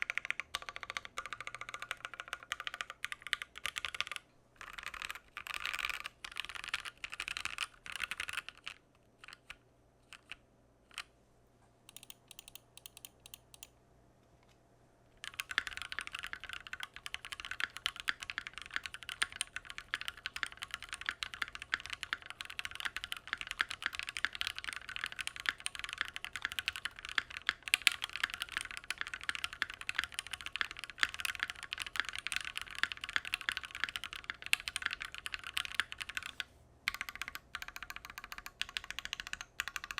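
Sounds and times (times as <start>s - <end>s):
mechanical keyboard typing: 0.0s - 11.1s, 11.9s - 13.7s, 15.2s - 39.9s.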